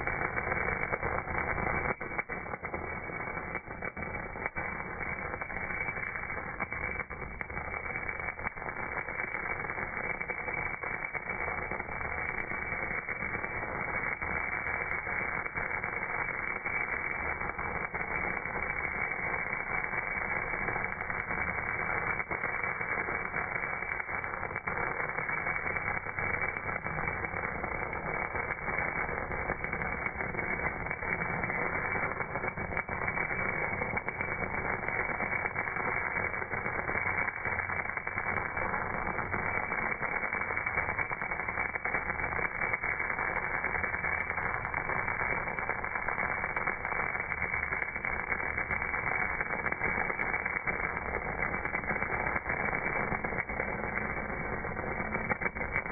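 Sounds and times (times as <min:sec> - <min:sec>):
slowed welding arc rushing noise: 0:00.0 - 0:55.9.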